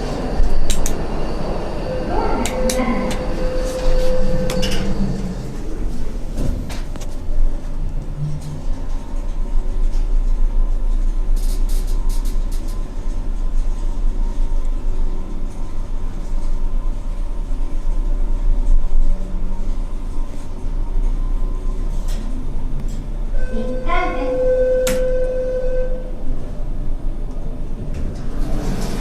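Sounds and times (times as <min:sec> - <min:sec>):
elevator low rumble and hum: 0:00.0 - 0:29.0.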